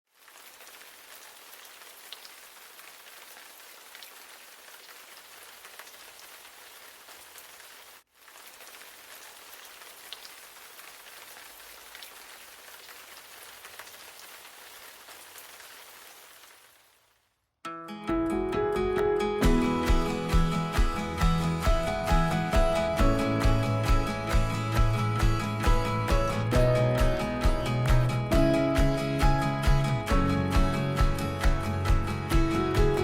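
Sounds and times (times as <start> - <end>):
steady rain falling: 0.1 - 17.2, 19.4 - 33.0.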